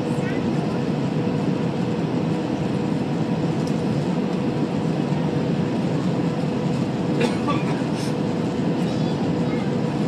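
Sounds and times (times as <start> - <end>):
airplane engine and airflow rush: 0.0 - 10.0.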